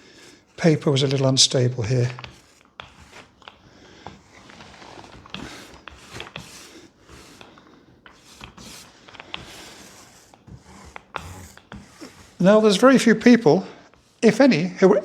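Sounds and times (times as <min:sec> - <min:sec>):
paper rustling: 0:00.9 - 0:14.5.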